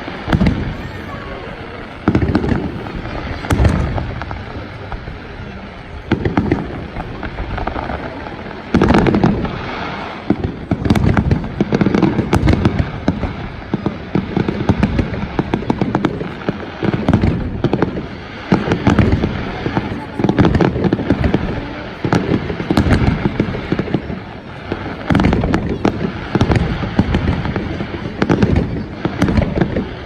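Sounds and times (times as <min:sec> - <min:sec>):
fireworks booms and crackling bangs: 0:00.0 - 0:30.0.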